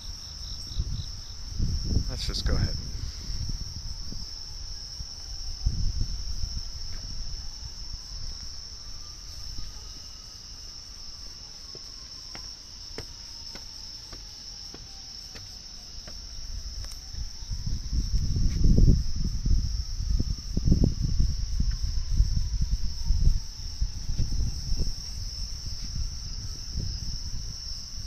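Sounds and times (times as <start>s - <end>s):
crickets chirping: 0.0s - 28.0s
distant tornado warning siren: 0.0s - 28.0s.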